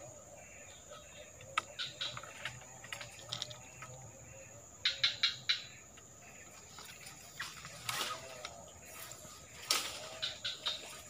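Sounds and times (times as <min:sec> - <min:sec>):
high insect whine: 0:00.0 - 0:11.0.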